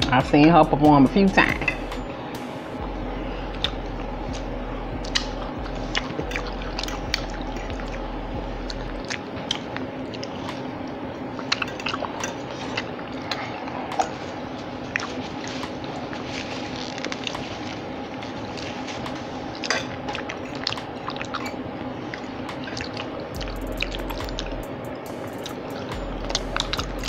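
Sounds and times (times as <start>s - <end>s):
low hum: 0.0s - 27.0s
crunchy chewing of fried food: 3.1s - 27.0s.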